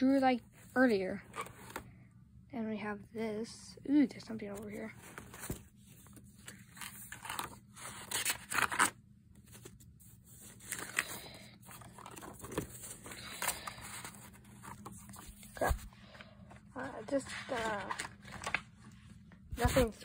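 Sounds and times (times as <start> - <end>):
paper pages rustling: 0.8 - 1.9, 4.4 - 20.0.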